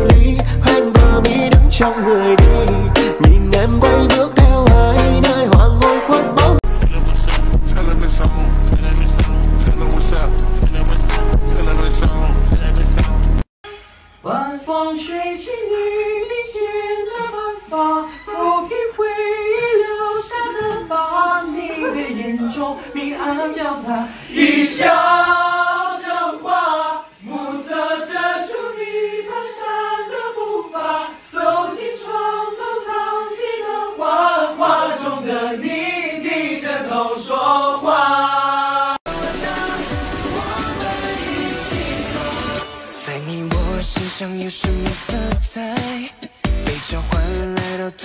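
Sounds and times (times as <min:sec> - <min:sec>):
group of men singing pop song: 0:00.0 - 0:13.4, 0:18.7 - 0:48.0.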